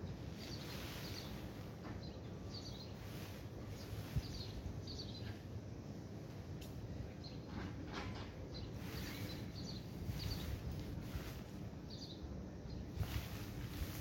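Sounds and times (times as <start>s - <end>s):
low outdoor hum: 0.0s - 14.0s
songbird chirping: 0.0s - 14.0s.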